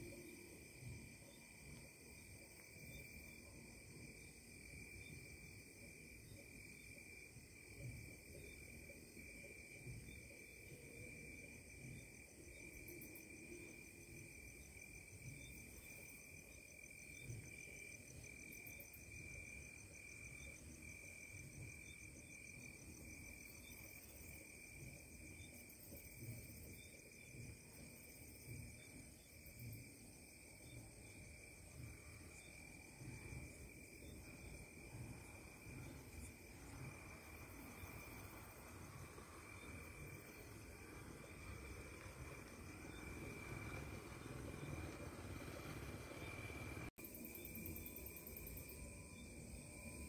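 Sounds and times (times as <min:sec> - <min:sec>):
faint low rumble: 0:00.0 - 0:46.9
night insects trilling: 0:00.0 - 0:50.0.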